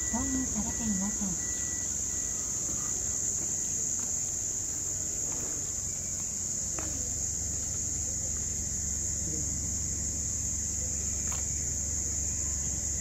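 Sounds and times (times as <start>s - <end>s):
cricket chorus chirring: 0.0s - 13.0s
low steady hum: 0.0s - 13.0s.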